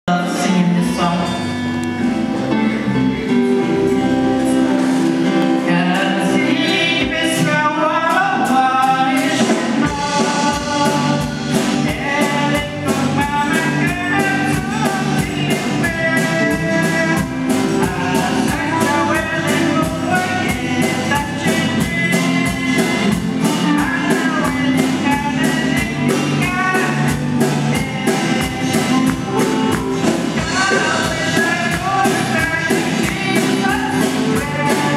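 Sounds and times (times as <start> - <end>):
electric guitar: 0.1 - 34.9
strummed acoustic guitar: 0.1 - 34.9
woman singing gospel song: 4.4 - 34.9.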